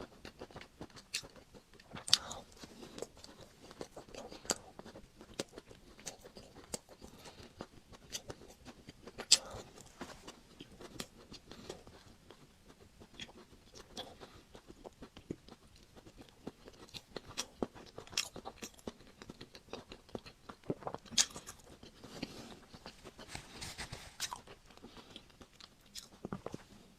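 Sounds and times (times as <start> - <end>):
wet chewing: 0.0 - 26.7.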